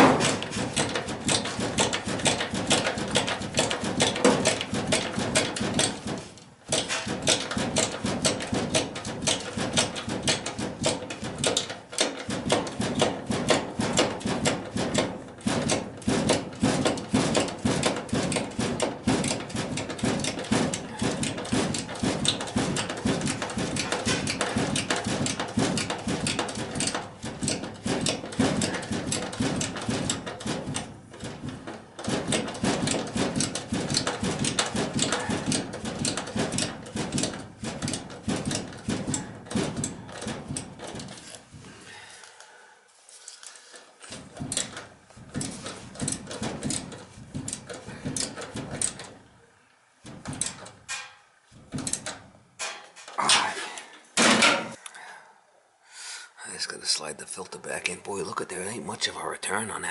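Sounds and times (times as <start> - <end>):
clicking and rattling of tool work: 0.0 - 55.0.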